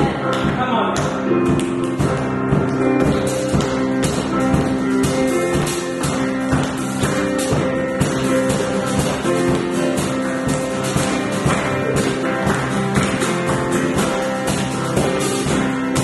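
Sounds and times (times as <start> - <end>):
worship band music: 0.0 - 16.0.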